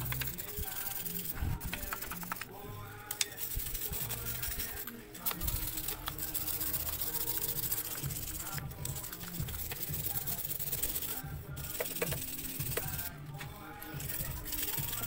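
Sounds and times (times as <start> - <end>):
sponge rubbing on metal: 0.0 - 2.5, 3.3 - 15.0
music with steady beat: 0.0 - 15.0.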